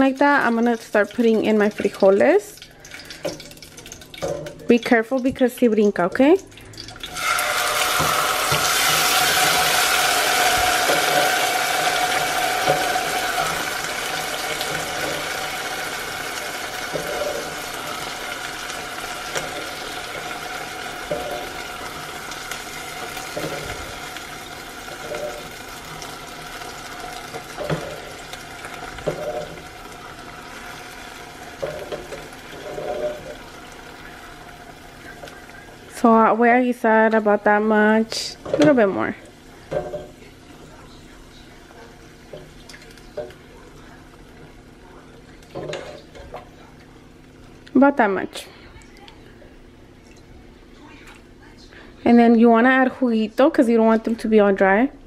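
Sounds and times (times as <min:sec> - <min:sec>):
beans sizzling in hot oil: 0:00.0 - 0:47.9.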